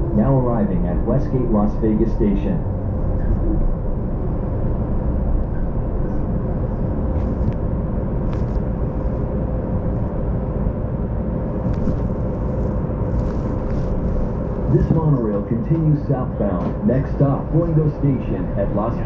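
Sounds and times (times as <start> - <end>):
monorail car rumble and hum: 0.0 - 19.0.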